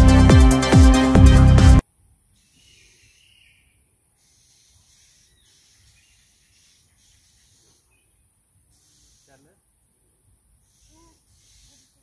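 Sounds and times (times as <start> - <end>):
faint outdoor hiss: 1.8 - 12.0.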